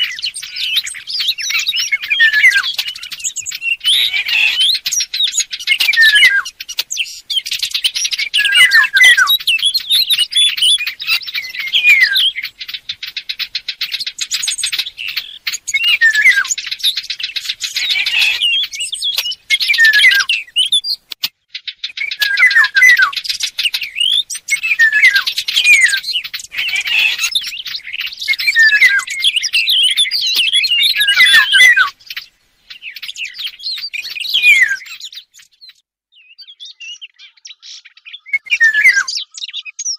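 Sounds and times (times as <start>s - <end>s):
recorded birdsong chirping and warbling: 0.0s - 39.9s.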